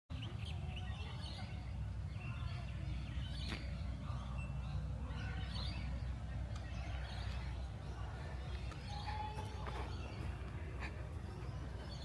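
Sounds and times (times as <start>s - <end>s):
small birds chirping: 0.1s - 12.0s
steady low rumble: 1.5s - 12.0s.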